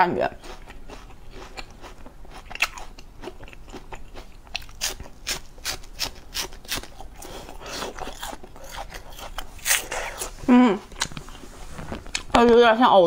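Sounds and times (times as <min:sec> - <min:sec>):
crunching and chewing plant stem: 0:00.2 - 0:12.5.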